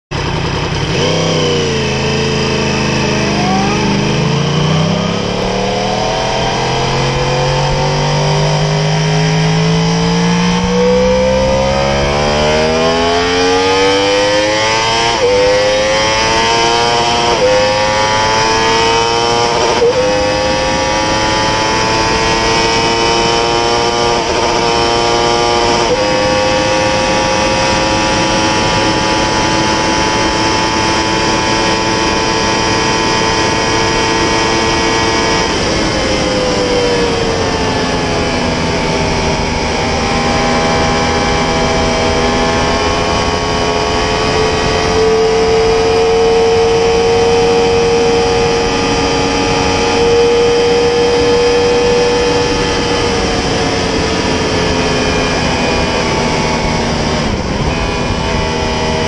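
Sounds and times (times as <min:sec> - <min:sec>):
motorcycle engine accelerating: 0:00.1 - 0:59.0
wind rush: 0:00.2 - 0:59.0.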